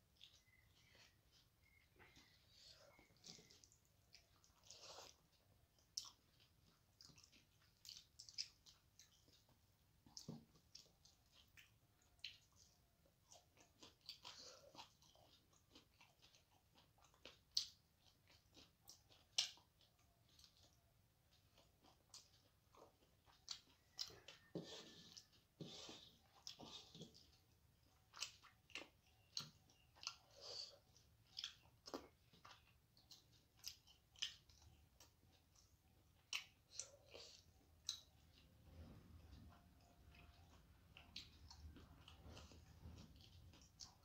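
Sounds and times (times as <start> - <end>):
close chewing and wet mouth sounds: 0.0 - 44.0.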